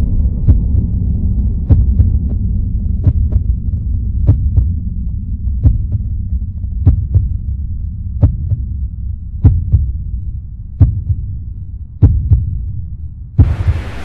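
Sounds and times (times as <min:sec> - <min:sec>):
heartbeat-like double thumping: 0:00.0 - 0:10.2, 0:10.8 - 0:11.4, 0:12.0 - 0:12.7, 0:13.3 - 0:14.0
low steady hum: 0:00.0 - 0:14.0.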